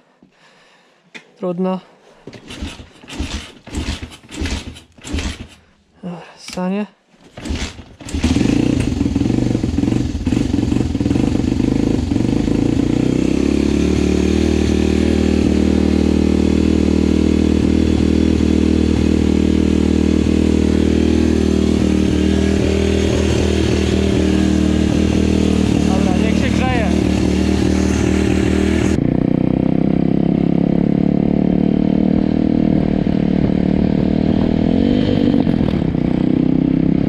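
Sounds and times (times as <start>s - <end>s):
motorbike engine starting and idling: 2.2s - 5.8s, 7.2s - 37.0s.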